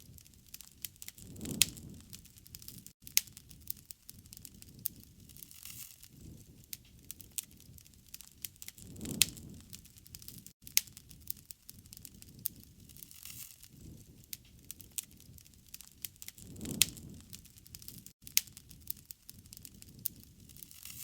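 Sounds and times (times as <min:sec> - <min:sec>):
wood fire crackling: 0:00.0 - 0:21.0
flames rushing: 0:00.1 - 0:02.9, 0:03.5 - 0:21.0.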